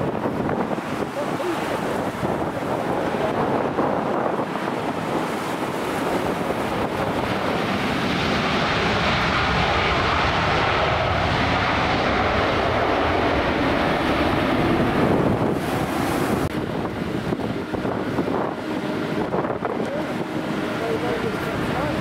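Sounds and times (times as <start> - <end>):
jet airliner roar: 0.0 - 22.0
wind buffeting microphone: 0.0 - 22.0.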